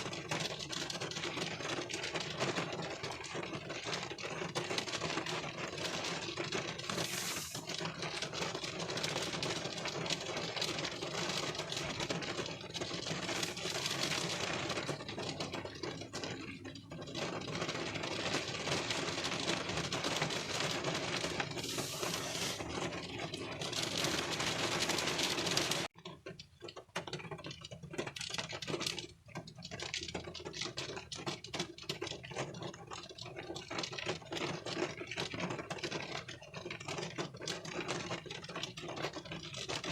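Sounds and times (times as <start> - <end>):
rain pattering on windshield: 0.0 - 39.9.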